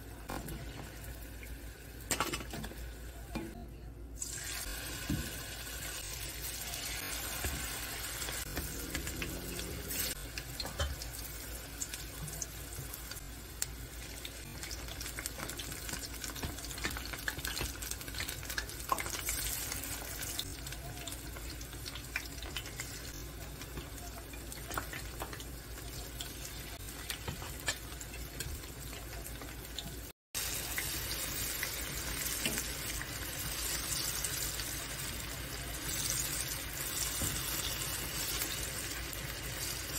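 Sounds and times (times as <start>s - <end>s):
food deep-frying in oil: 4.2s - 39.9s.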